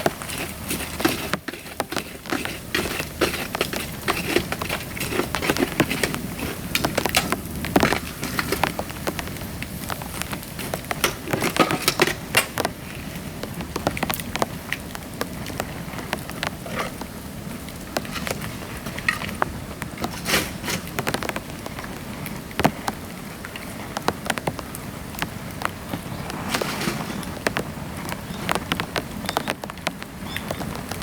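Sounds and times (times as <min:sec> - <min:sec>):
bamboo fire crackling and popping: 0:00.0 - 0:31.0.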